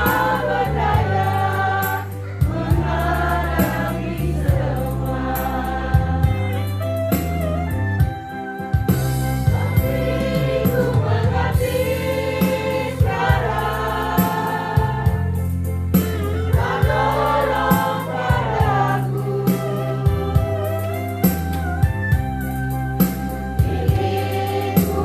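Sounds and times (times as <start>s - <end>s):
group singing gospel song: 0.0s - 6.8s, 9.1s - 21.9s, 23.2s - 25.0s
amplified instrumental accompaniment: 0.0s - 25.0s.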